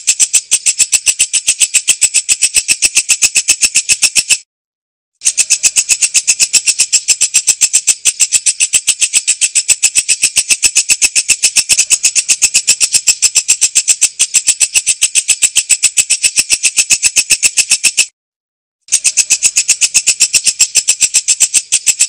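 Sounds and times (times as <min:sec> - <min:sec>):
katydid chirping clicks: 0:00.0 - 0:04.4, 0:05.2 - 0:18.1, 0:18.9 - 0:22.0.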